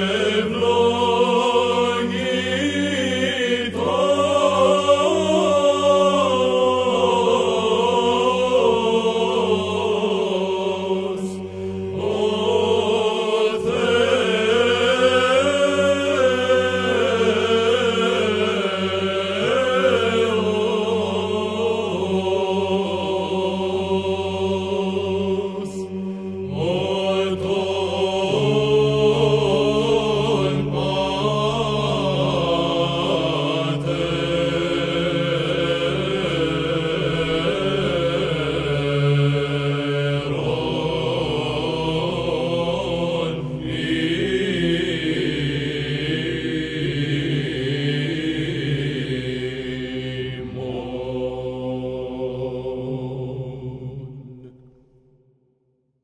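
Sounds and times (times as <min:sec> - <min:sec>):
choir chanting ornate melody: 0:00.0 - 0:55.2.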